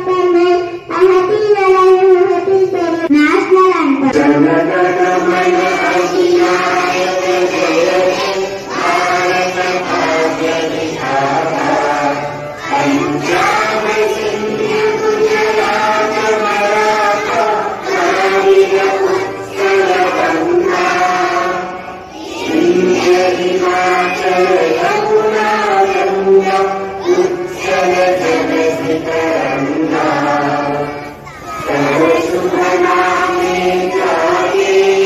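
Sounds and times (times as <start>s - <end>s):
children singing in unison: 4.1s - 35.0s.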